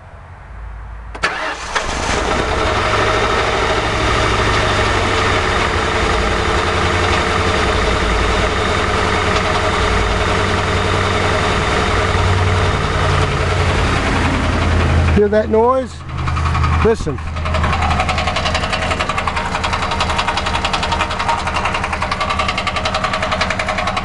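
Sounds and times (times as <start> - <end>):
engine cranking: 1.2 - 24.0
car engine idling roughly: 1.3 - 24.0.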